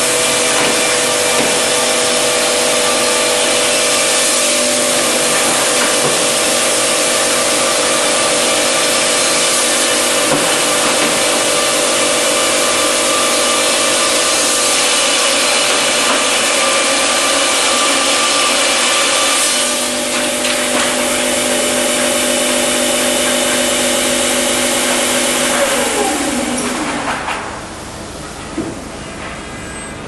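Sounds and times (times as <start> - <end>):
saw cutting through lumber: 0.0 - 27.3.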